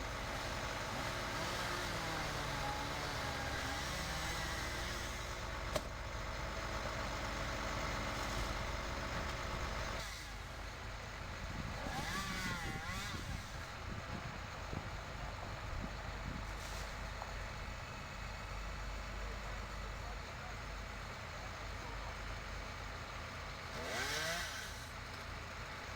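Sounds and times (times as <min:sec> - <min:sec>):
heavy engine rumbling: 0:00.0 - 0:23.8.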